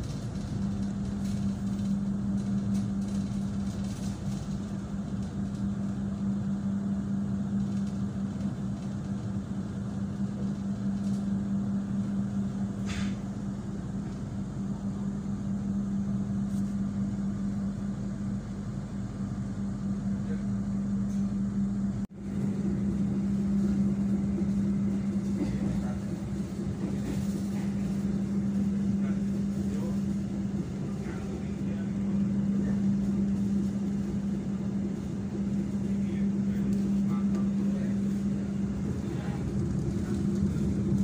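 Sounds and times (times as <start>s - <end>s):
train running noise: 0.0s - 14.8s, 22.1s - 41.0s.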